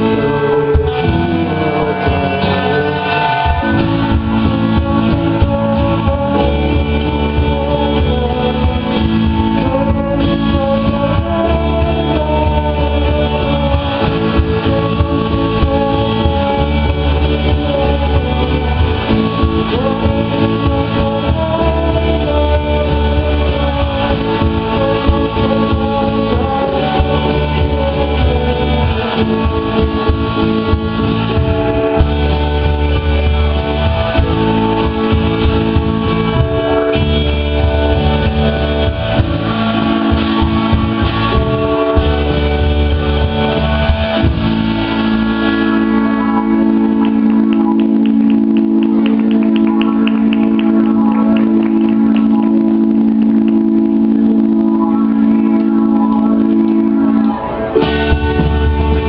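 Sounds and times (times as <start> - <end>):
bass line: 0.0 - 59.0
live rock band playing: 0.0 - 59.0.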